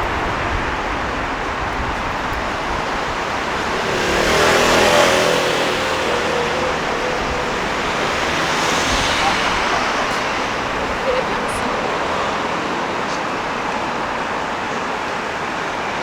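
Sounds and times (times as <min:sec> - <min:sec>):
vehicle passing close: 0:00.0 - 0:15.6
city street traffic: 0:00.0 - 0:16.0.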